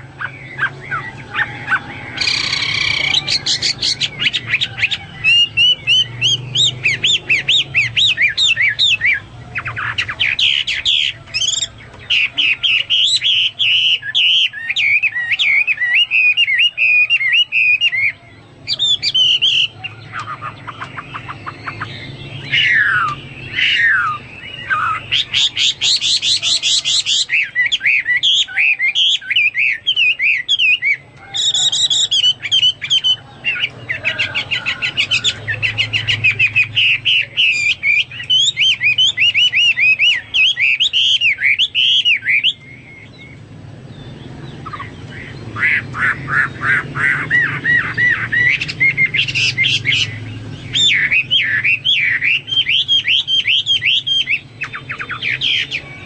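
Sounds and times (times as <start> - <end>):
bird singing varied whistled song: 0.0 - 56.0.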